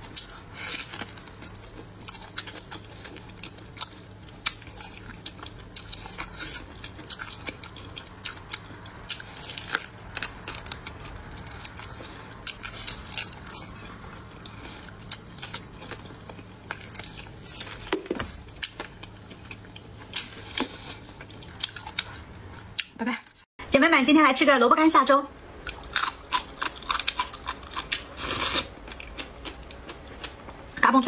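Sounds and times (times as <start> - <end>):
biting and chewing: 0.0 - 22.9, 25.4 - 30.6.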